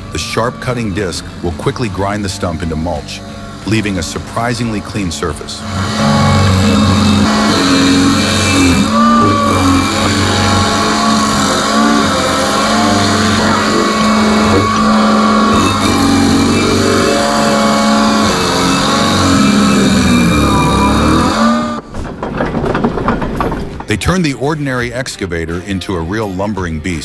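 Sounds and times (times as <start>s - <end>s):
stump grinder engine running: 0.0s - 24.2s.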